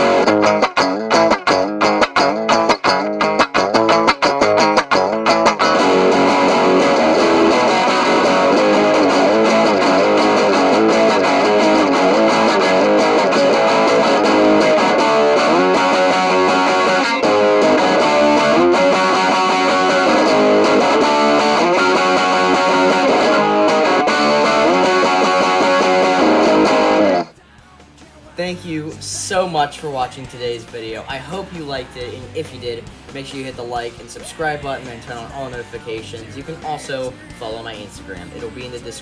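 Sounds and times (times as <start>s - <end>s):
distorted electric guitar riff: 0.0s - 27.4s, 28.9s - 39.0s.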